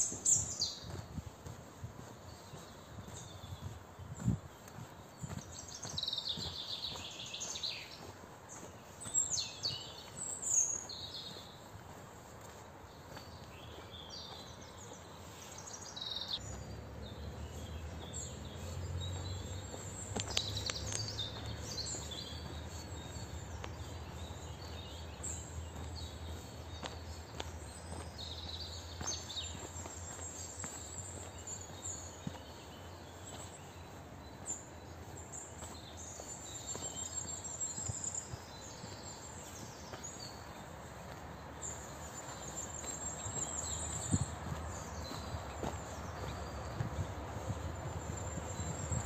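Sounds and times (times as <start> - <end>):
songbirds singing and calling: 0.0 - 49.0.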